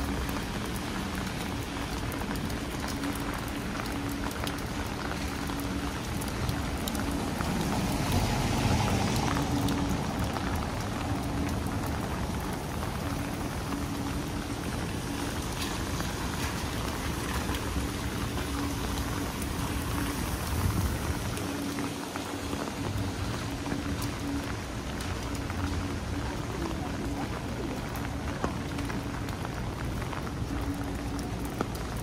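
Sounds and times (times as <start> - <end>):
rain pattering on umbrella: 0.0 - 32.0.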